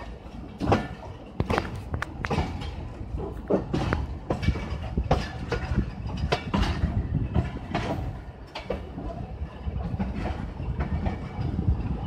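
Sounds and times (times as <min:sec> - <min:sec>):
train running gear rumbling: 0:00.0 - 0:12.0
wheels clacking over rail joints: 0:00.0 - 0:12.0.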